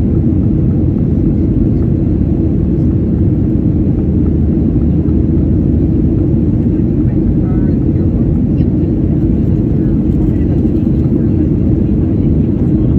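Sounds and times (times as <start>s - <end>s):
jet airliner cabin rumble: 0.0s - 12.9s.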